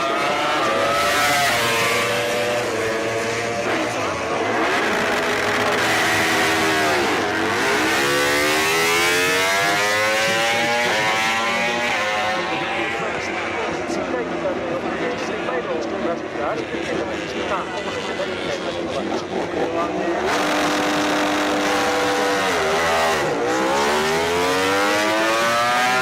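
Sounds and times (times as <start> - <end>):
racing motorcycle engines revving: 0.0 - 26.0.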